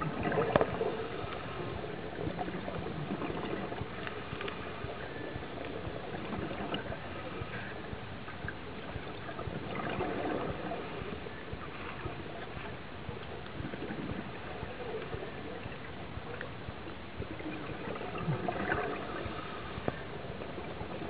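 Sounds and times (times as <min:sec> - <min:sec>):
diver's bubbles gurgling: 0:00.0 - 0:21.0
muffled underwater noise: 0:00.0 - 0:21.0.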